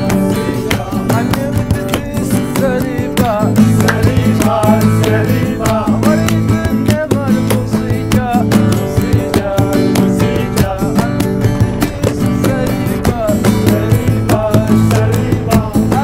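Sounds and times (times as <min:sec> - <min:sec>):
plucked-string tune over a beat: 0:00.0 - 0:16.0.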